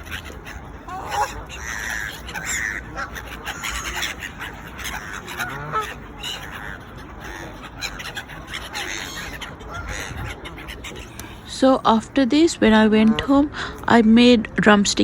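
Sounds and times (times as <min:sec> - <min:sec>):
ducks and geese calling: 0:00.0 - 0:14.0.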